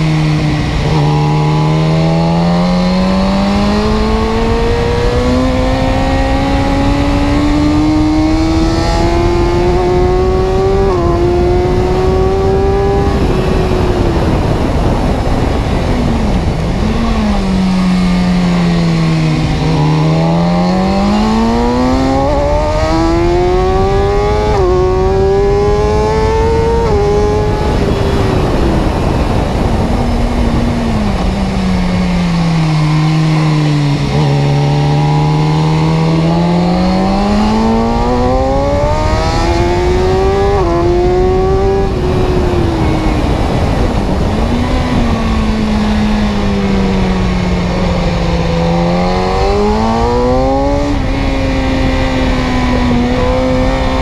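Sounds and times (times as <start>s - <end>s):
motor vehicle engine revving: 0.0s - 54.0s.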